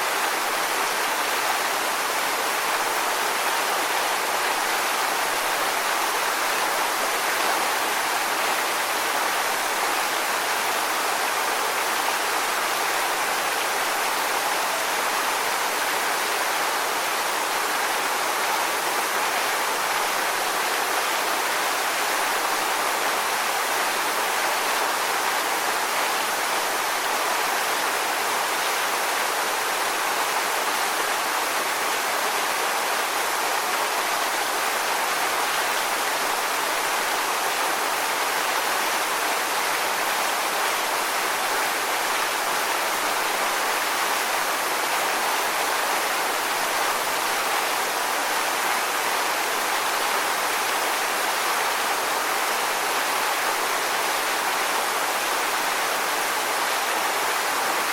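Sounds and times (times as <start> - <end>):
rushing water: 0.0 - 57.9.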